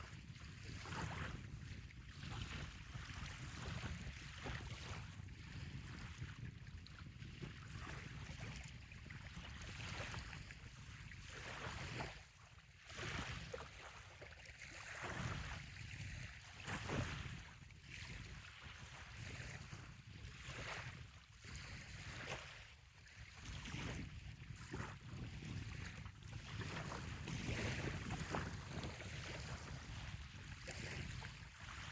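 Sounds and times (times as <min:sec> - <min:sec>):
waves lapping on sandy shore: 0:00.0 - 0:06.6, 0:07.4 - 0:31.9
wind rumbling on microphone: 0:00.0 - 0:12.2, 0:14.7 - 0:31.9.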